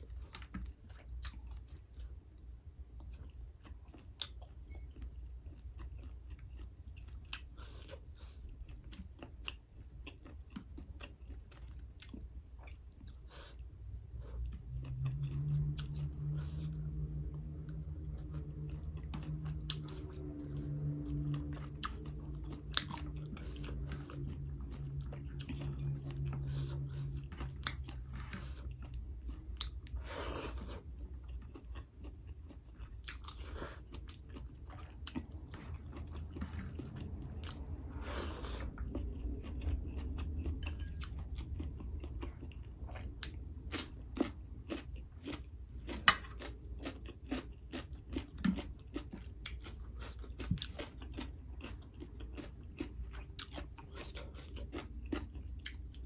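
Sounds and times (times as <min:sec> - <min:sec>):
food crunching: 0:00.0 - 0:56.0
low steady hum: 0:00.0 - 0:56.0
person chewing food: 0:00.0 - 0:56.0.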